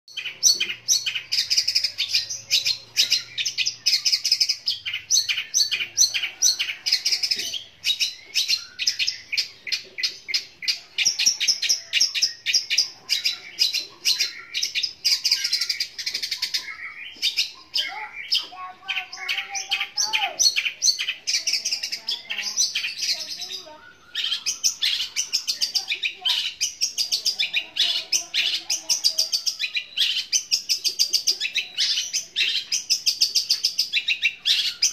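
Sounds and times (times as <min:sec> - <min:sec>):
bird singing harsh chatter: 0:00.1 - 0:34.9.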